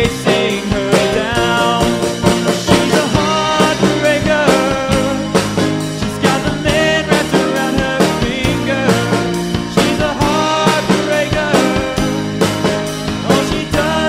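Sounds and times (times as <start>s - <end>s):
drum kit beat: 0.0s - 14.0s
rock song: 0.0s - 14.0s.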